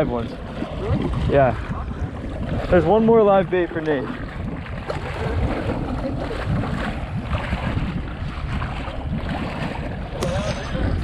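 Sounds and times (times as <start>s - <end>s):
sea water washing around boat: 0.0s - 11.0s
wind rumble on microphone: 0.0s - 11.0s.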